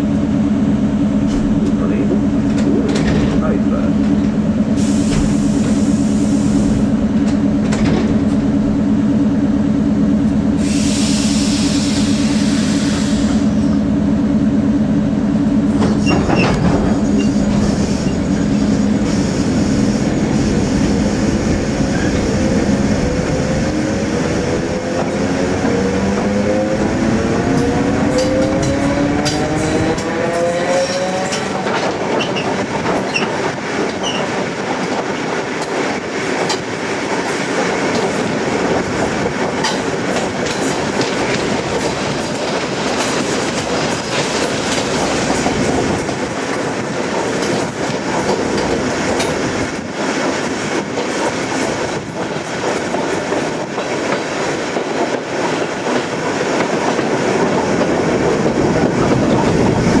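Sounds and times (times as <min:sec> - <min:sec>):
train wheels rumbling on rails: 0:00.0 - 1:00.0
clickety-clack over rail joints: 0:01.2 - 0:05.9, 0:06.7 - 0:08.8, 0:15.6 - 0:21.0, 0:24.2 - 1:00.0.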